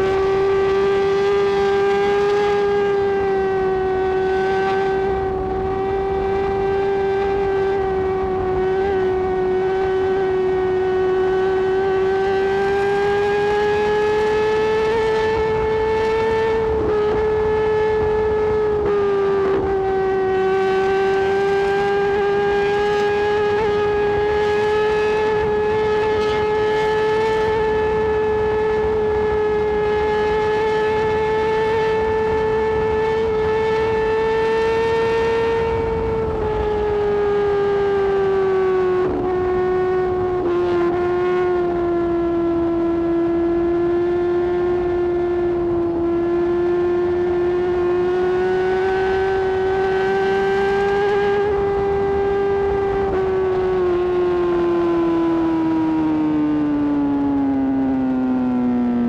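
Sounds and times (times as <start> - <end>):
motorcycle engine at high revs: 0.0 - 59.0.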